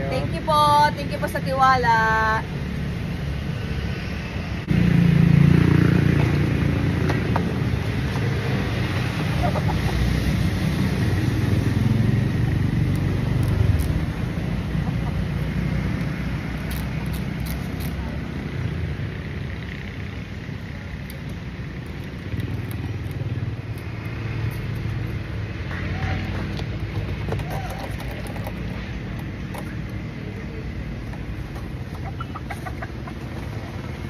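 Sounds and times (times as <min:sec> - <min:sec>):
steady road noise: 0:00.0 - 0:34.0
vehicle engine rumble: 0:00.0 - 0:34.0.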